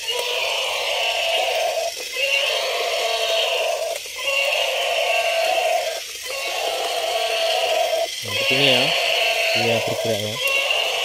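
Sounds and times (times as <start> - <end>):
buzzy electronic toy sound: 0.0 - 11.0.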